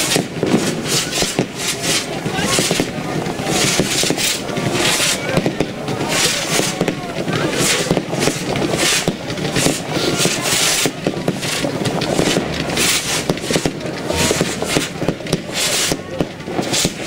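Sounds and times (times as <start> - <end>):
fireworks launching with pops: 0.0 - 17.0.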